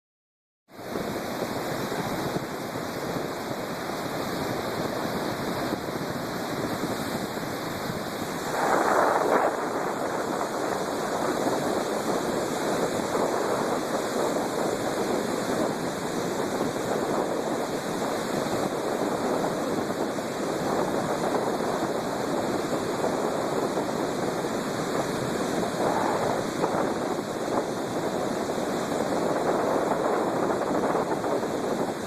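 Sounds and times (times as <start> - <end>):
storm waves breaking: 0.8 - 32.0.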